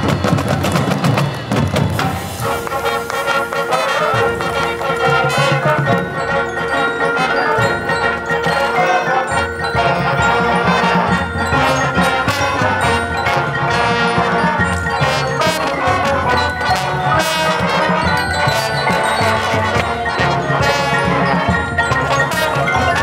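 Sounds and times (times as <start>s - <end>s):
marching band playing: 0.0s - 23.0s
sharp percussion strikes: 0.0s - 23.0s.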